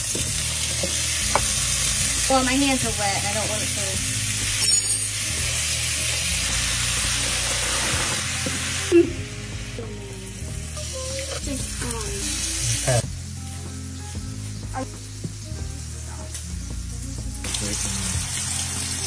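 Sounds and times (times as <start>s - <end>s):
background music: 0.0s - 19.0s
zucchini sizzling in a frying pan: 0.0s - 19.0s.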